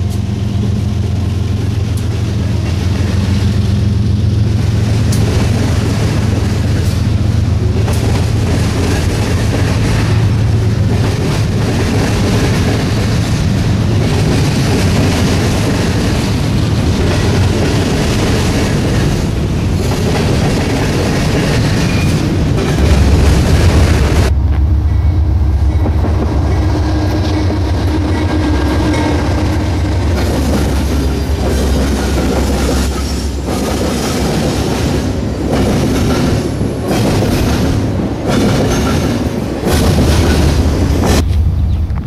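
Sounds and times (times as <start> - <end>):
freight train rumbling past: 0.0 - 42.0
train wheels clattering over rail joints: 4.4 - 24.3, 25.7 - 42.0.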